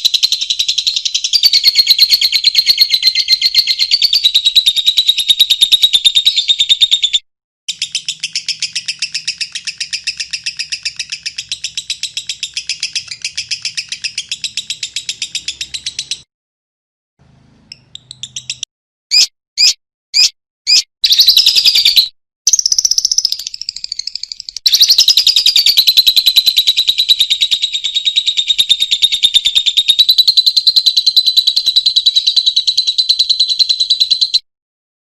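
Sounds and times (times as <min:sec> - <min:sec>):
lovebird chirps and trill: 0:00.0 - 0:16.3, 0:17.7 - 0:34.5.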